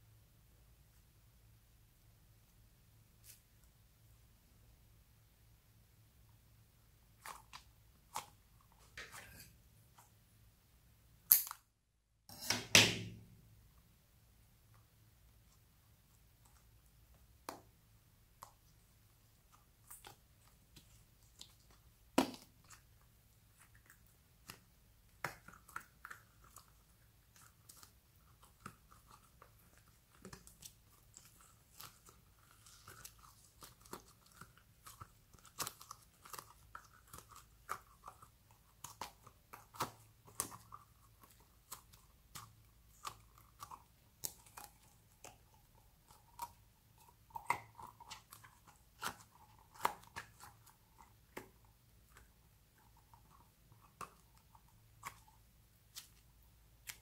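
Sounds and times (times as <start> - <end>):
slime squelching: 6.8 - 10.4, 14.8 - 57.0.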